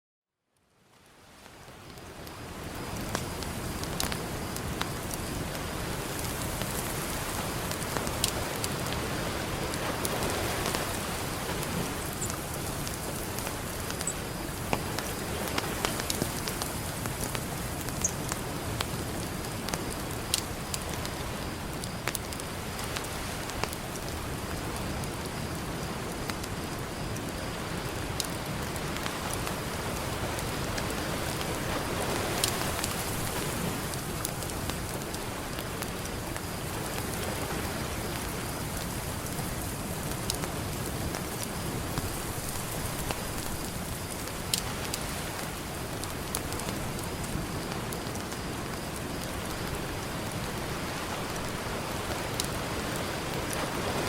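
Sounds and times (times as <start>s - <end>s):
campfire crackling and popping: 1.0s - 54.0s
ocean surf: 2.2s - 54.0s.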